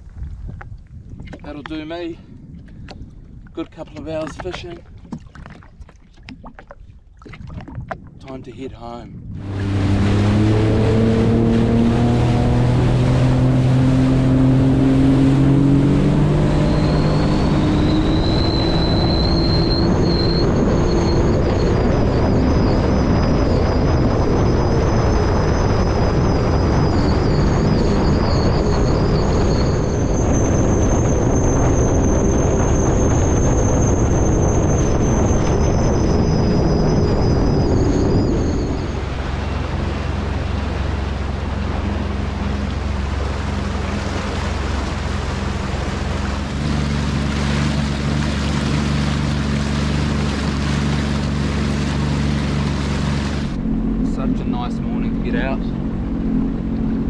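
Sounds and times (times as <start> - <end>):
jet ski engine roaring: 7.6 - 57.0.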